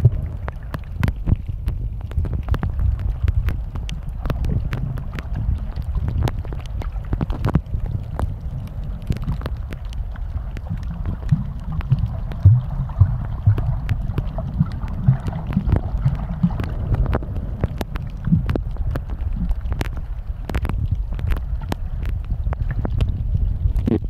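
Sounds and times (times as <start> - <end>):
sharp underwater clicks and crackles: 0.0 - 24.0
underwater rumble of moving water: 0.0 - 24.0.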